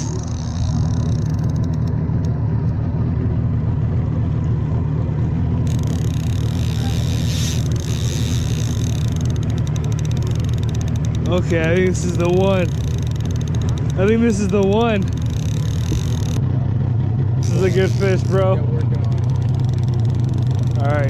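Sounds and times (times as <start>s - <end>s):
outboard motor humming: 0.0s - 21.0s.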